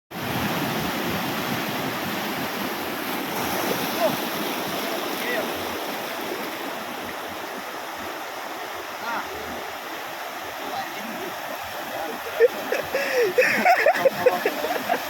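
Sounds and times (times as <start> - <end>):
sea water washing over shore: 0.1 - 15.0.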